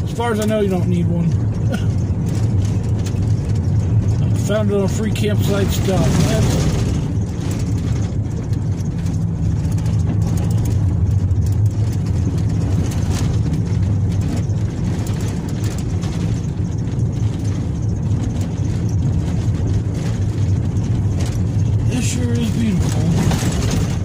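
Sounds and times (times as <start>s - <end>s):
engine and tyre rumble: 0.0s - 24.0s
vehicle knocks and rattles: 0.0s - 24.0s.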